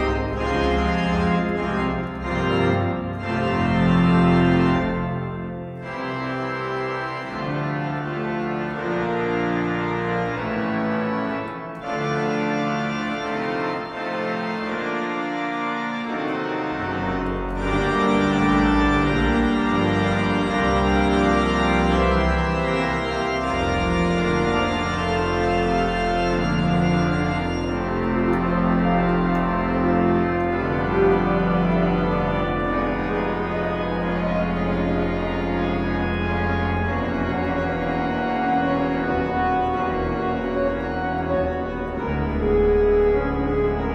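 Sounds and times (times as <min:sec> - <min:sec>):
deep organ pedal bass: 0:00.0 - 0:43.9
pipe organ playing hymn chords: 0:00.0 - 0:43.9.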